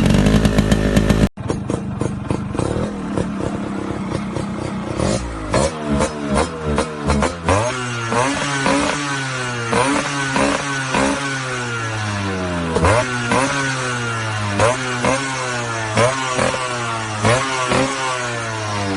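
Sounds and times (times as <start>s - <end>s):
two-stroke engine revving: 0.0s - 18.9s.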